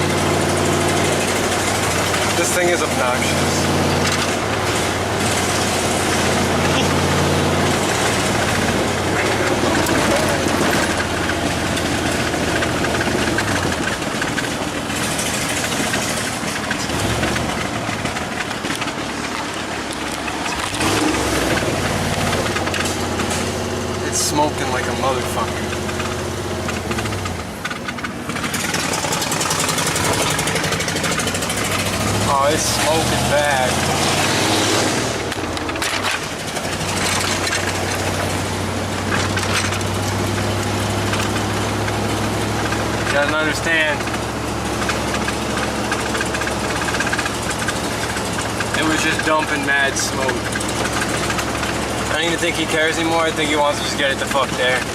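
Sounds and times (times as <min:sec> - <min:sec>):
road noise: 0:00.0 - 0:54.9
vehicle engines running: 0:00.0 - 0:54.9.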